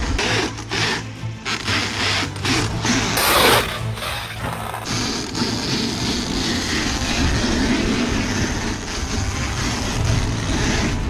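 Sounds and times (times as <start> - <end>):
toy car motor and tyres rushing: 0.0 - 11.0.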